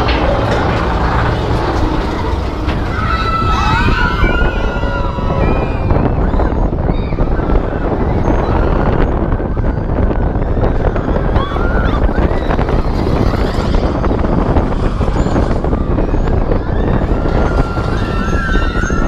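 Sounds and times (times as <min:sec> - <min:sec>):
roller coaster rumbling on track: 0:00.0 - 0:19.0
wind rushing over microphone: 0:00.0 - 0:19.0.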